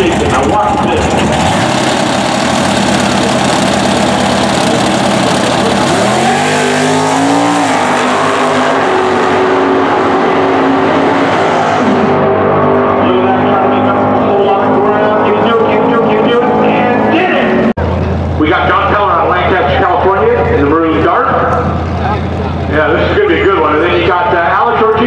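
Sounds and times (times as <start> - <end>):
drag racing car engines revving: 0.0 - 25.0.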